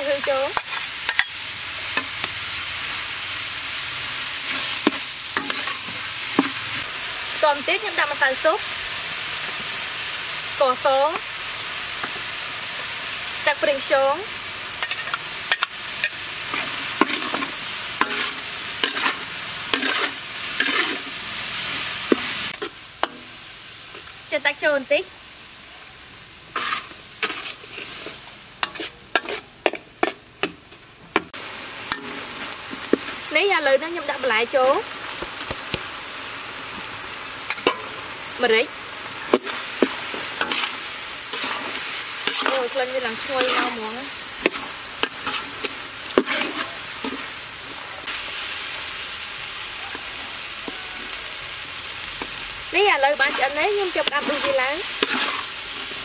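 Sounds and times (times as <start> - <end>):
water hissing in hot wok: 0.0 - 29.8, 31.3 - 56.0
food sizzling: 0.0 - 56.0.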